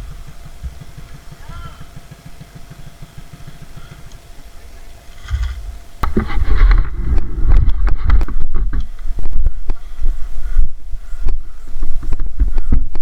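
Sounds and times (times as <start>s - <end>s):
motorcycle engine rough rumble: 0.0s - 13.0s.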